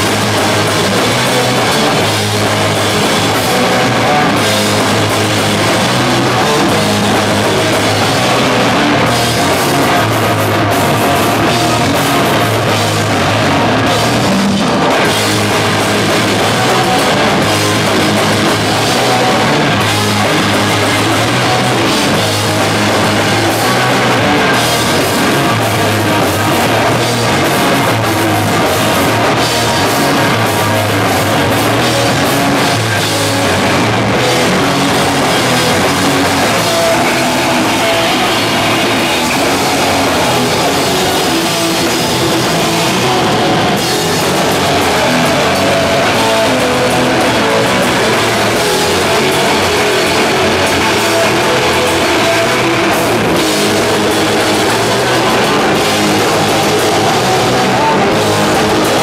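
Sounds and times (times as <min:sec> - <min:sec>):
live punk band playing loud: 0:00.0 - 0:59.0.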